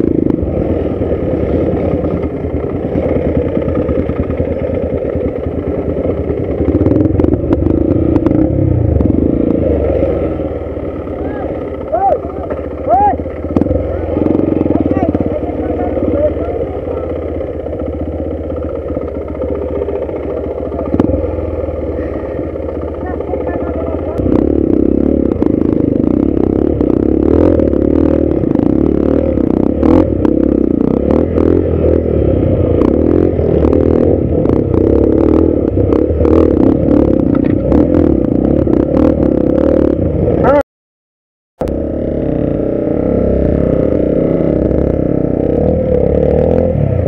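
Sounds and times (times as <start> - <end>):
dirt bike engine at low revs: 0.0 - 40.6, 41.6 - 47.0.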